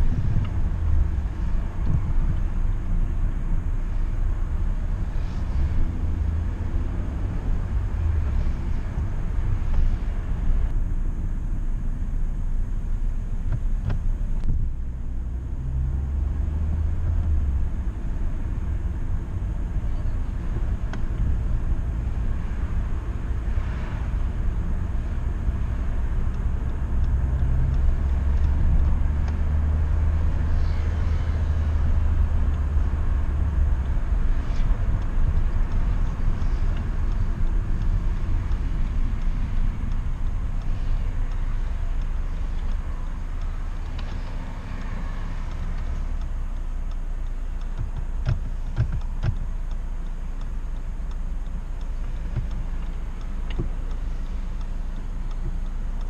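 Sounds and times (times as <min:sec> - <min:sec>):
car engine and tyres rumbling: 0:00.0 - 0:56.0
deeper engine drone: 0:00.0 - 0:56.0.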